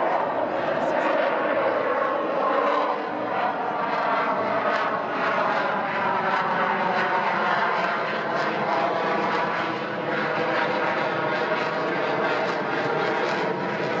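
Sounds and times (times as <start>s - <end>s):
jet engine roar with crackle: 0.0s - 14.0s.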